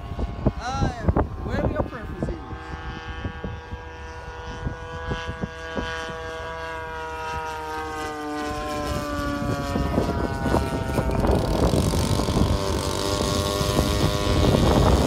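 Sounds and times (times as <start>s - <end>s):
model plane engine drone: 0.0s - 15.0s.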